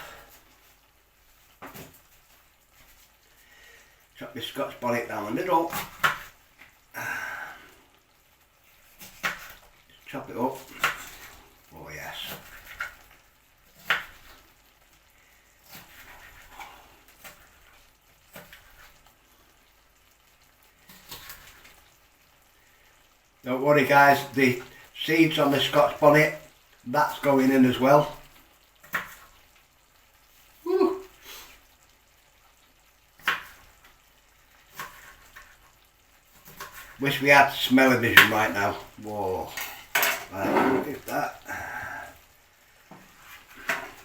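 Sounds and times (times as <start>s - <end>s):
food sizzling in a pan: 0.0s - 44.0s.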